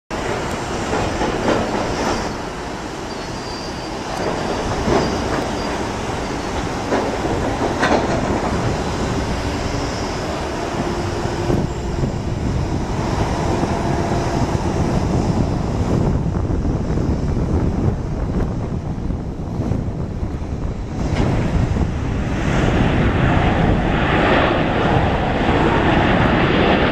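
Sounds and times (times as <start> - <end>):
distant jet engines rushing: 0.1 - 26.9.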